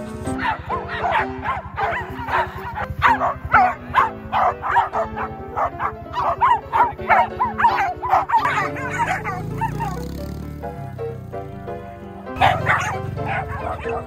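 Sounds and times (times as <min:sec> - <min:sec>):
background music: 0:00.0 - 0:14.0
small dogs yapping: 0:00.3 - 0:10.3, 0:12.4 - 0:14.0.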